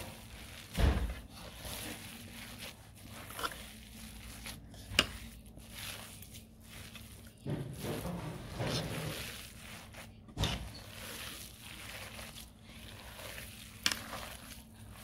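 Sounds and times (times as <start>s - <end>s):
hands squishing soft mash: 0.0s - 15.0s.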